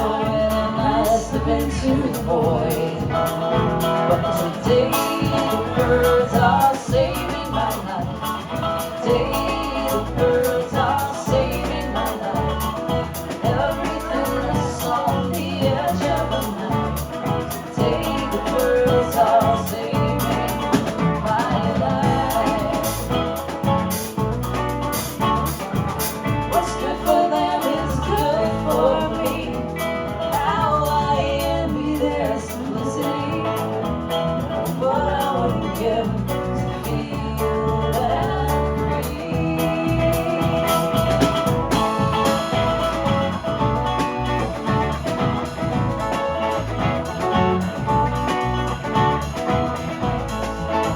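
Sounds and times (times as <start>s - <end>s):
band playing: 0.0s - 50.9s
steady drum beat: 0.0s - 50.9s.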